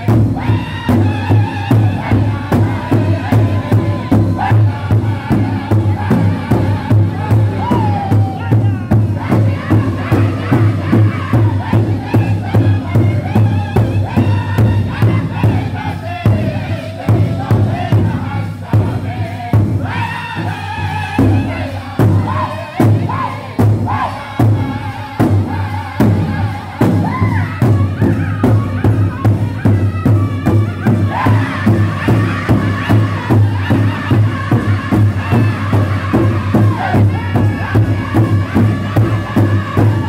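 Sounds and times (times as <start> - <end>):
large drum beat: 0.0 - 40.0
men singing together: 0.0 - 40.0.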